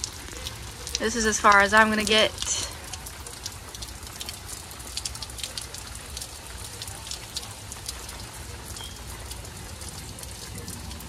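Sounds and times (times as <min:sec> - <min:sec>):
rain hissing: 0:00.0 - 0:11.0
raindrops ticking: 0:00.0 - 0:11.0.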